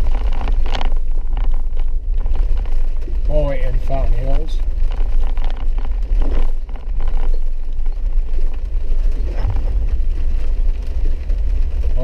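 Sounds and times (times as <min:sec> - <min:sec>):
vehicle rumble from inside cab: 0:00.0 - 0:12.0.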